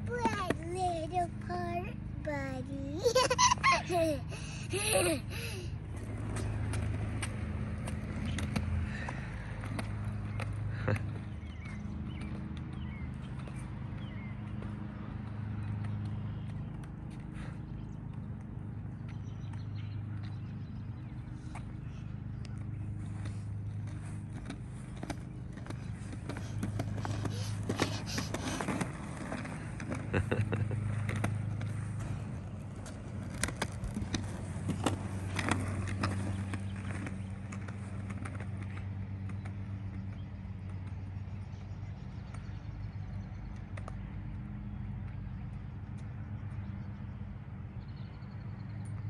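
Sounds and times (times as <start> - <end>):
scooter wheels rattling on concrete: 0.0 - 49.0.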